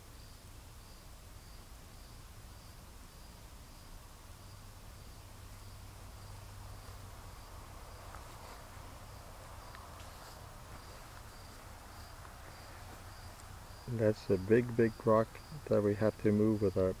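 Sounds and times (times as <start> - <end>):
insects chirping: 0.0 - 17.0
soft low hum: 0.0 - 17.0.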